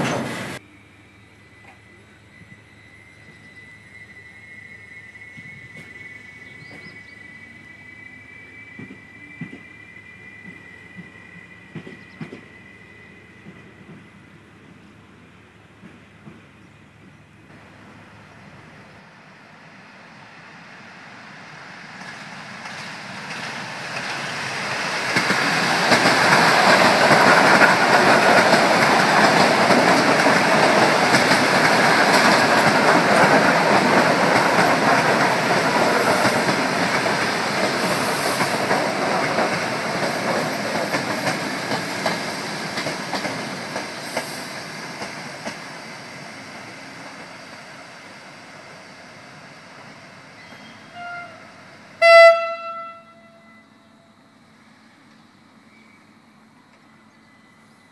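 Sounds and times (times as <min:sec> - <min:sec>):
train wheels on rails: 0:00.0 - 0:53.1, 0:54.3 - 0:57.9
electric train passing: 0:00.0 - 0:57.9.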